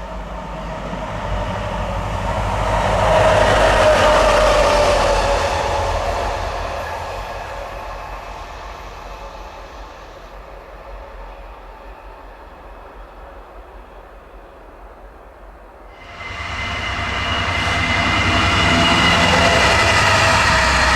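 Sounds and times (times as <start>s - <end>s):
train passing by: 0.0s - 20.9s.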